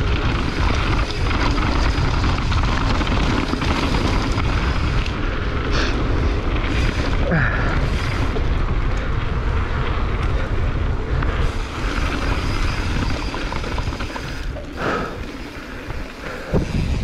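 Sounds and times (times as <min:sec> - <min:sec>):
bike tyres on dirt and stones: 0:00.0 - 0:17.0
wind rushing over microphone: 0:00.0 - 0:17.0.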